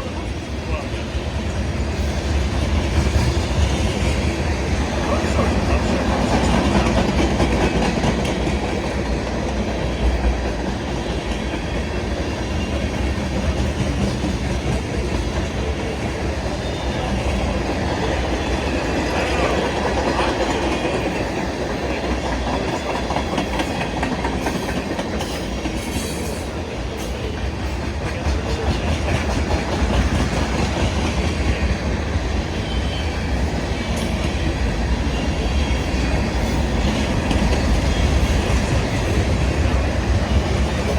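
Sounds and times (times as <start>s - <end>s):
train wheels clacking on rails: 0.0s - 40.9s.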